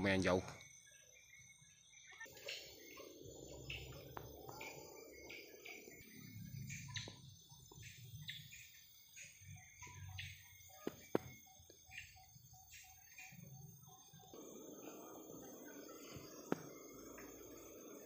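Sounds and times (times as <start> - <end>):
high chirps: 1.2 - 18.0.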